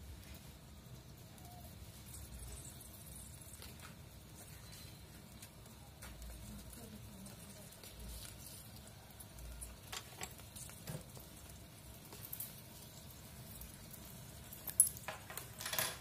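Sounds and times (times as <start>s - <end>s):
sauce bubbling and sizzling: 0.0s - 15.6s.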